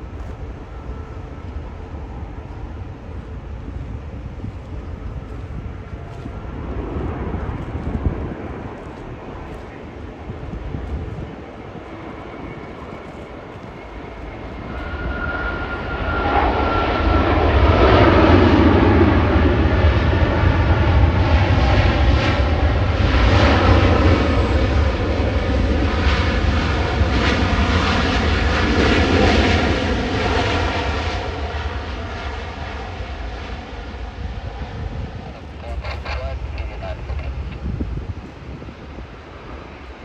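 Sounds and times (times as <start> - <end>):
airliner engines passing: 0.0 - 40.0.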